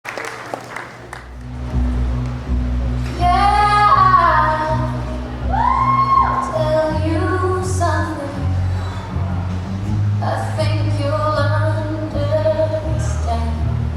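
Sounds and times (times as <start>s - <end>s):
low held chords: 1.1s - 13.9s.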